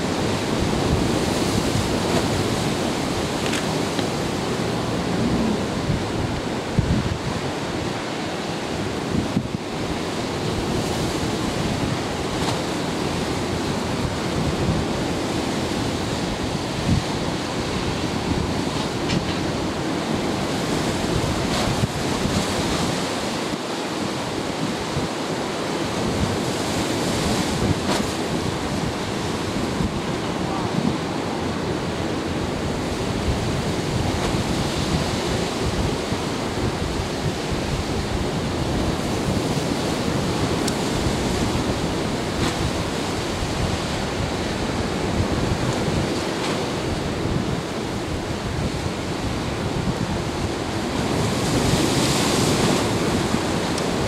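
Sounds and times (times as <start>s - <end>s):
choppy sea waves: 0.0s - 54.0s
wind blowing across microphone: 0.0s - 54.0s.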